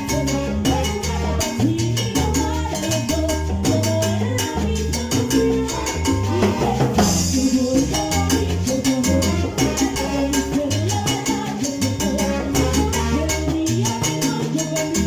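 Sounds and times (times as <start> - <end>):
bass line: 0.0 - 15.0
percussion strikes: 0.0 - 15.0.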